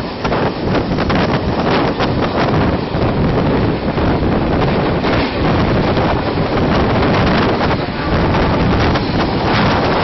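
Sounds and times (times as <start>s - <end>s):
train wheels on rails: 0.0s - 10.0s
wind buffeting microphone: 0.0s - 10.0s.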